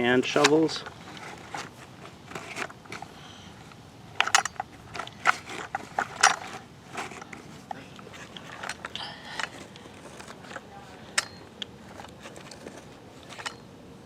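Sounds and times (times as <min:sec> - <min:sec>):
toy tools scraping in sand: 0:00.0 - 0:13.6.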